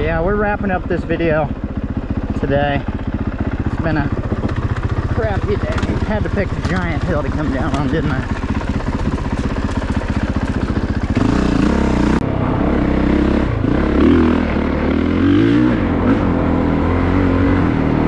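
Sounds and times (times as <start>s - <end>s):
dirt bike engine revving: 0.2s - 18.0s.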